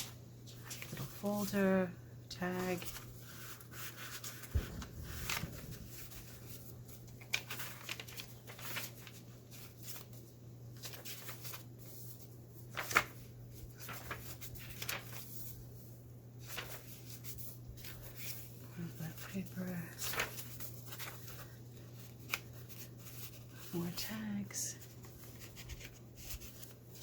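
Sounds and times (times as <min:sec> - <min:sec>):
paper pages rustling: 0:00.0 - 0:01.8, 0:02.4 - 0:27.0.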